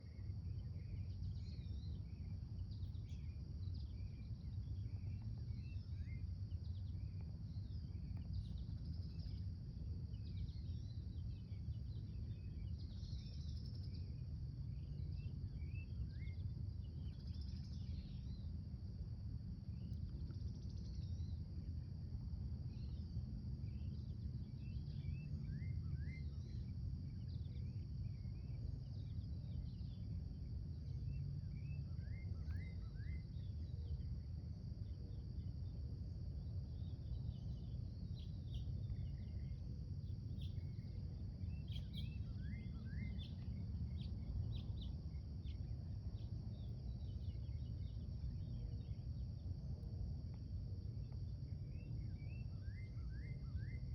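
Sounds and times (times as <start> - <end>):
steady low rumble: 0.0 - 52.6.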